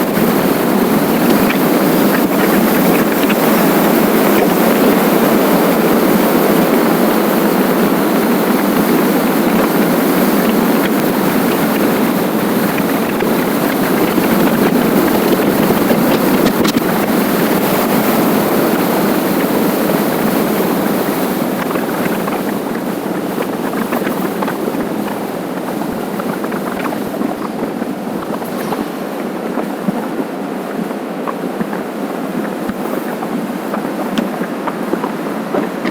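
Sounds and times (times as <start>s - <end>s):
wind rushing on microphone: 0.0s - 35.9s.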